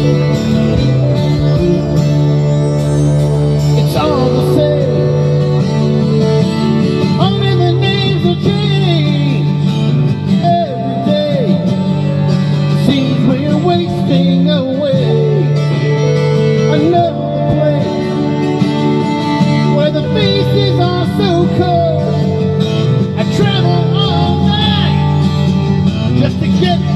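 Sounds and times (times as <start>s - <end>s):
person singing: 0.0s - 25.2s
country music: 0.0s - 26.9s
plucked guitar: 0.0s - 26.9s.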